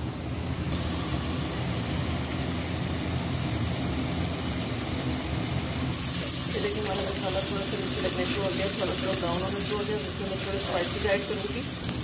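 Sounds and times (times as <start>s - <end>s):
paste sizzling in oil: 0.8s - 12.0s.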